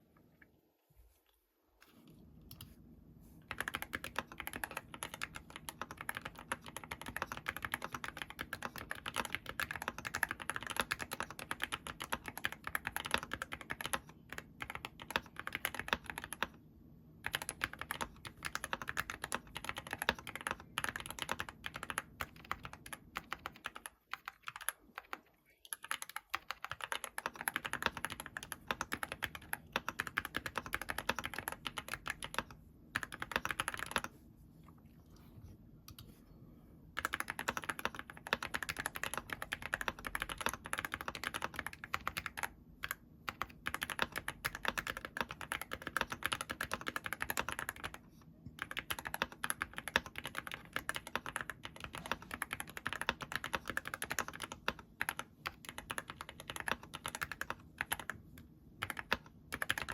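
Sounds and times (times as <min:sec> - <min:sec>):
mechanical keyboard typing: 0:03.5 - 0:16.6, 0:17.2 - 0:34.1, 0:37.0 - 0:59.9.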